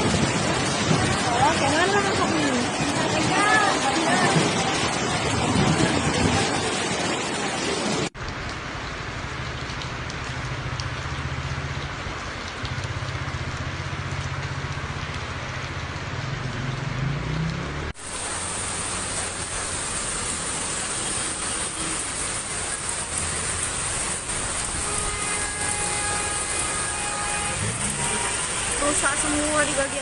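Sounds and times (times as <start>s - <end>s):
rain and wind: 0.0s - 30.0s.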